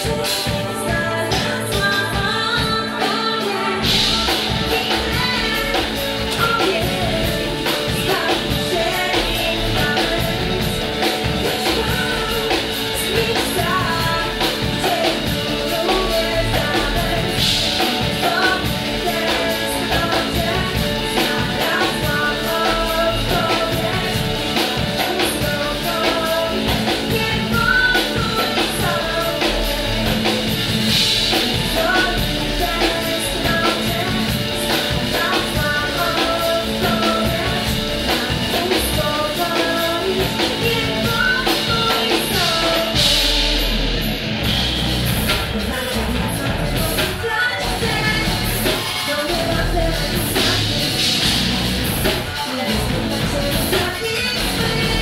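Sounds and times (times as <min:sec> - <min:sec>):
person singing: 0:00.0 - 0:44.0, 0:45.3 - 0:55.0
drums: 0:00.0 - 0:55.0
electric guitar: 0:00.0 - 0:55.0
keyboards: 0:00.0 - 0:55.0.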